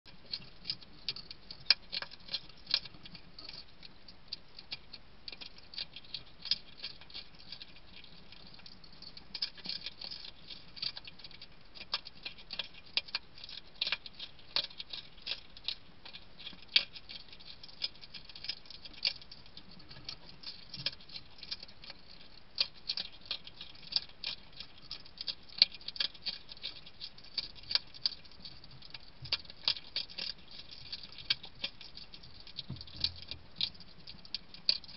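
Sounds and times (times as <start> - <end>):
hedgehog chewing and crunching food: 0.1 - 34.9.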